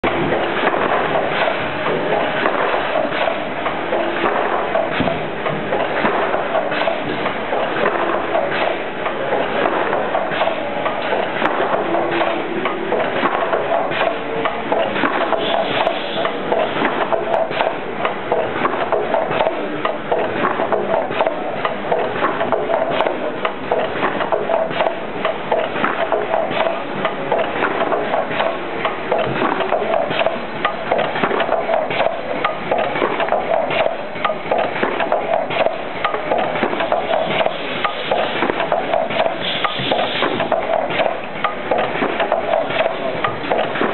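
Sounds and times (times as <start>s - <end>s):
machine clattering clicks and knocks: 0.0s - 43.9s
steady machine hum: 0.0s - 43.9s.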